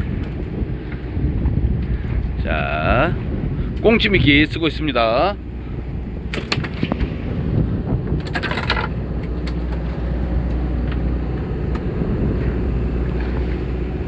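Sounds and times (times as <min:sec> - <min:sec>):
boat engine humming: 0:00.0 - 0:14.0
sea noise: 0:00.0 - 0:14.0
wind: 0:00.0 - 0:14.0.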